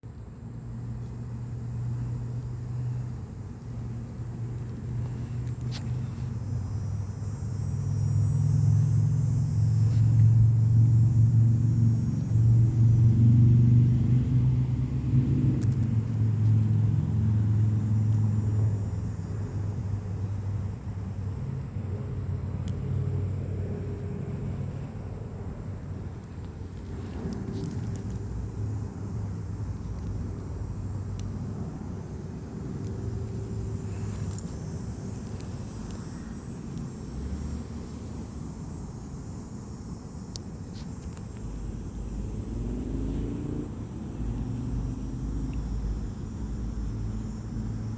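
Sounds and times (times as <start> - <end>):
vehicle engine rumbling: 0.0 - 47.9
faint humming tones: 0.1 - 47.9.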